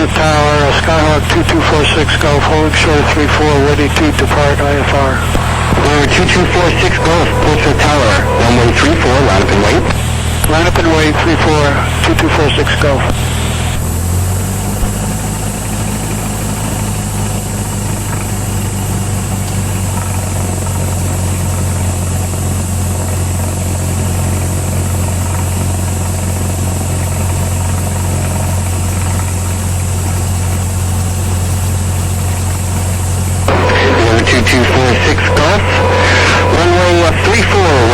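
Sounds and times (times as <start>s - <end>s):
light aircraft engine droning: 0.0s - 37.9s.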